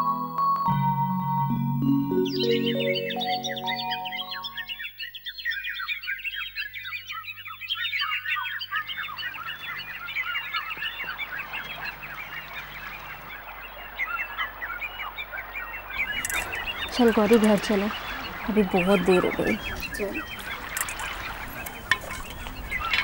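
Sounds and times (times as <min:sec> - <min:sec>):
birds chirping: 0:01.2 - 0:23.0.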